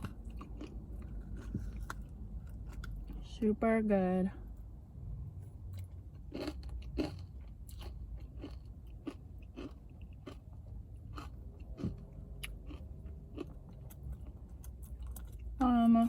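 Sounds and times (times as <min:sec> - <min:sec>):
person chewing with crunches: 0:00.0 - 0:03.3, 0:05.6 - 0:15.6.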